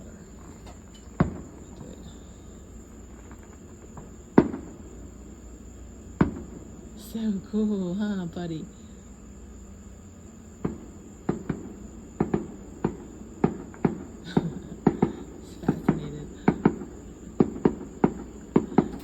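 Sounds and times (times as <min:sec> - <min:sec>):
fireworks popping and cracking: 0:00.0 - 0:08.6, 0:10.4 - 0:19.0
crickets chirring: 0:00.0 - 0:19.0.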